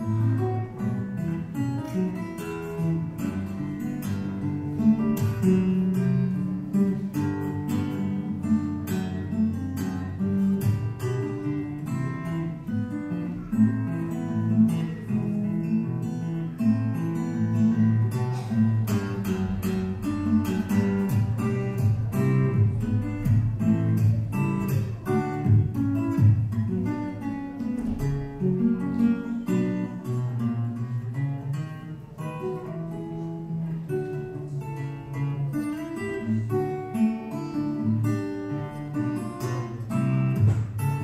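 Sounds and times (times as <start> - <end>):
acoustic guitar playing: 0.0 - 41.0.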